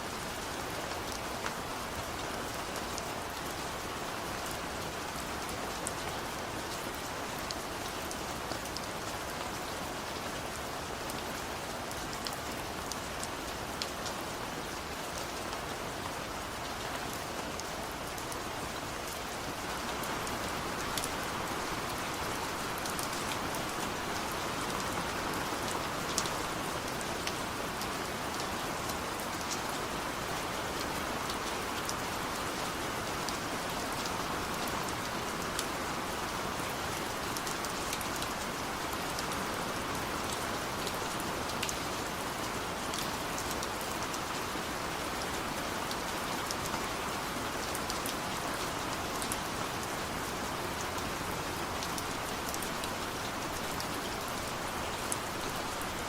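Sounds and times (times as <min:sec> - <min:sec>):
rain drops ticking on surface: 0:00.0 - 0:56.0.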